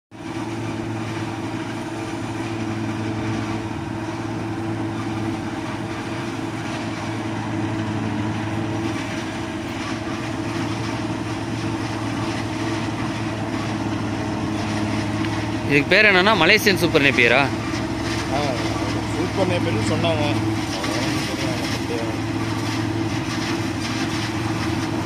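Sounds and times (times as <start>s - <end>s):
forage chopper engine drone: 0.1s - 25.0s.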